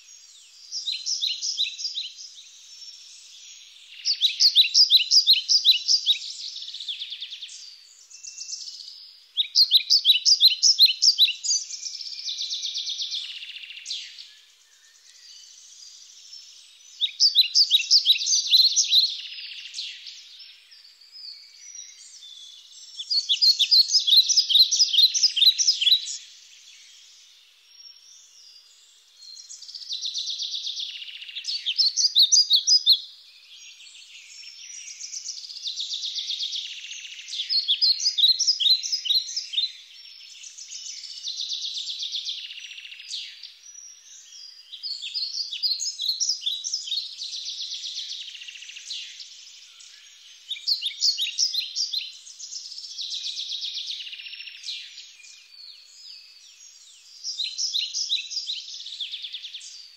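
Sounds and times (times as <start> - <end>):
songbird singing rapid chirps: 0.0 - 59.9.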